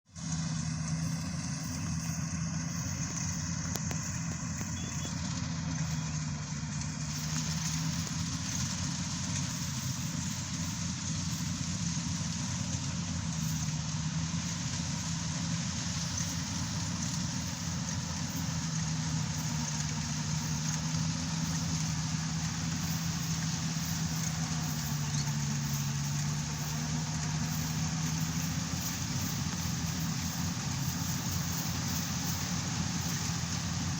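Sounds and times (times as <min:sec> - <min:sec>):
combine harvester engine running: 0:00.1 - 0:33.9
faint high whine: 0:01.0 - 0:06.2, 0:07.0 - 0:33.9.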